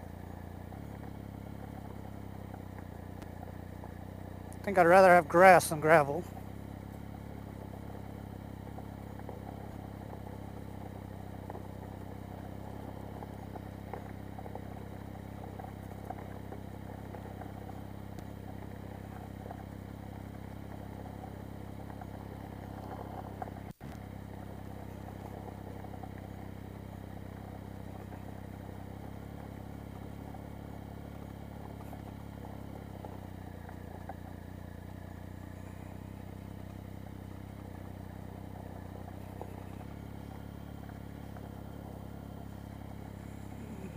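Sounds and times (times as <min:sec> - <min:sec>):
motorcycle engine at low revs: 0:00.0 - 0:43.9
tyres crackling on gravel: 0:00.2 - 0:43.9.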